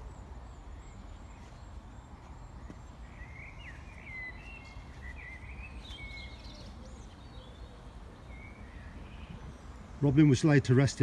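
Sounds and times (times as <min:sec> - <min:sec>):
small birds chirping and whistling: 0:00.0 - 0:10.4.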